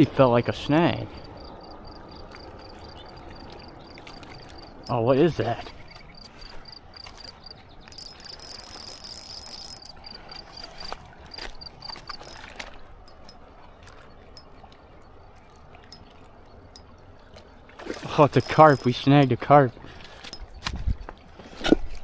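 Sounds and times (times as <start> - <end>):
insect chirping: 0.7 - 17.3, 17.9 - 20.6.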